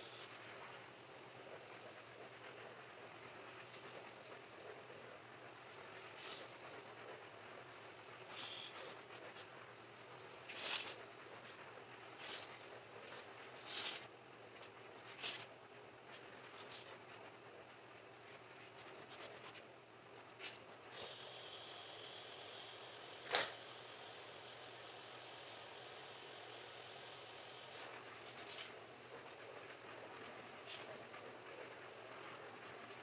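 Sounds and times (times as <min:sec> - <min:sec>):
carpet cleaner hiss: 0:00.0 - 0:14.1, 0:20.4 - 0:33.0
carpet cleaner swishing strokes: 0:00.0 - 0:14.2, 0:20.4 - 0:33.0.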